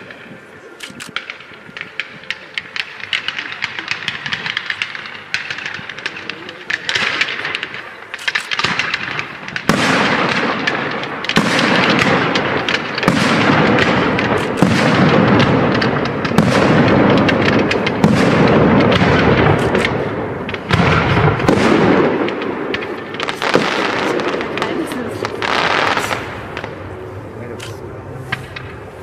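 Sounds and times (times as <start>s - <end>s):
fireworks crackling pops: 0.0s - 29.0s.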